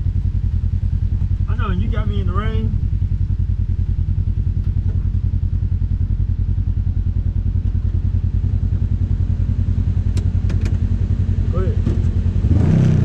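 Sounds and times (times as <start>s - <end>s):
utility vehicle engine idling: 0.0s - 12.7s.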